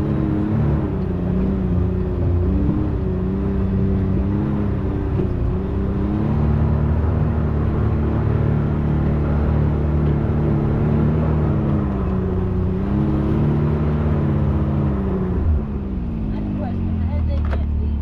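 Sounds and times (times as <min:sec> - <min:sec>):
engine running under load: 0:00.0 - 0:18.0.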